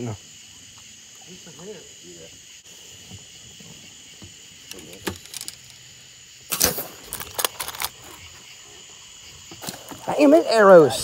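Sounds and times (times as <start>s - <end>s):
night insects chirring: 0.0s - 11.0s.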